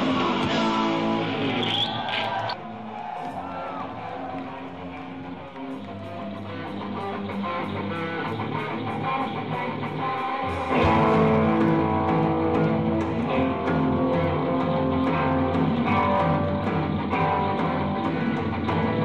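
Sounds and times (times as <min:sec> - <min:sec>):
electric guitar playing: 0:00.0 - 0:02.6, 0:04.2 - 0:19.0
punk band playing: 0:00.0 - 0:19.0.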